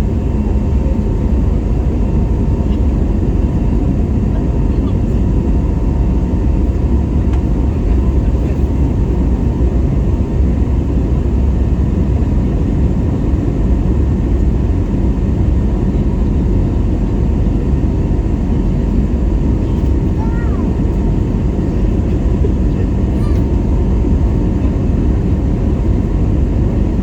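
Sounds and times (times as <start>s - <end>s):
jet engine rumble in cabin: 0.0s - 27.0s.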